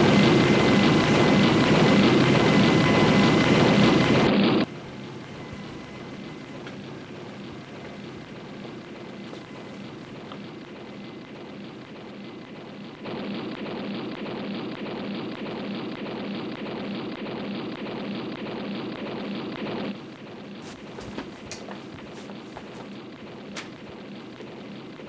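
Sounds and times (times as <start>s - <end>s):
rumbling drone: 0.0s - 25.0s.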